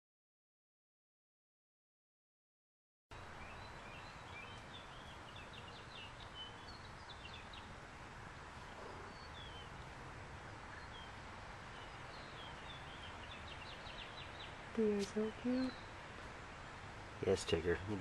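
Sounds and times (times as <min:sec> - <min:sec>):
low outdoor background rumble: 0:03.1 - 0:18.0
small birds chirping: 0:03.1 - 0:18.0.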